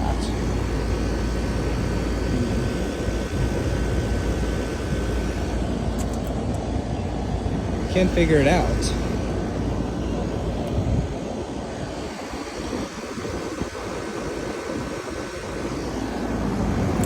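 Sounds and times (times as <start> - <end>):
air conditioner units droning: 0.0 - 17.0
faint high whine: 0.0 - 17.0.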